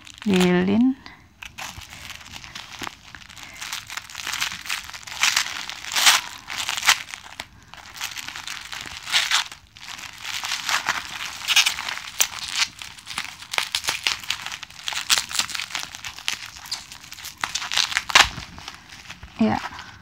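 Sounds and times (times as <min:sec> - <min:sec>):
packaging wrap crinkling: 0:00.0 - 0:20.0.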